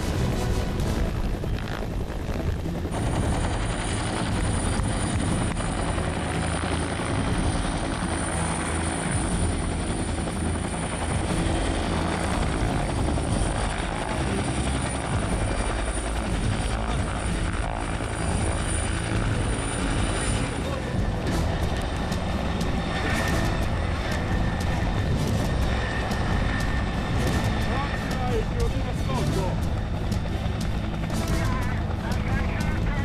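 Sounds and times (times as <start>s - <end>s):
helicopter rotor and turbine: 0.0s - 33.0s
steady high whine: 0.0s - 33.0s.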